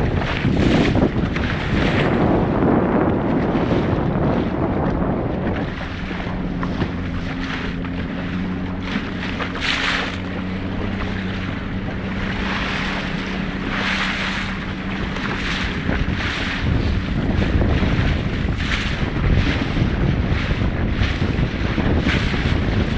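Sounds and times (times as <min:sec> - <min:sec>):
boat engine humming: 0:00.0 - 0:22.9
water splashing: 0:00.0 - 0:22.9
wind buffeting microphone: 0:00.0 - 0:22.9.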